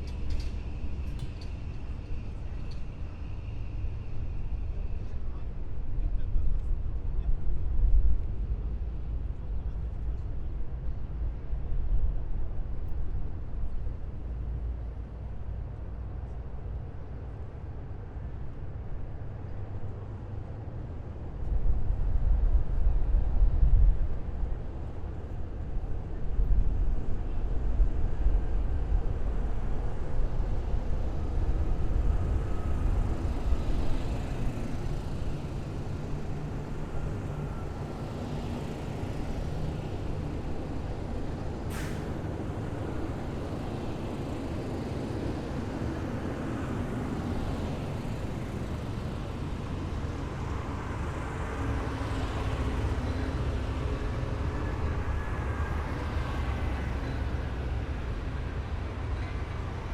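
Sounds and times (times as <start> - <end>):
military vehicle engines rumbling: 0.0 - 59.9.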